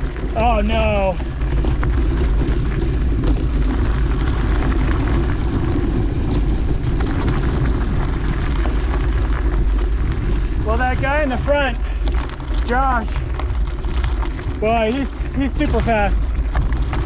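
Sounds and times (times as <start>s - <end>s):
wind rumbling over microphone: 0.0s - 17.0s.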